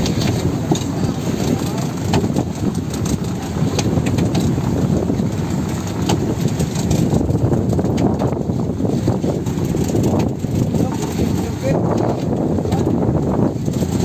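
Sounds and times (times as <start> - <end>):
sharp clicks and knocks: 0.0 - 13.0
boat engine running: 0.0 - 14.0.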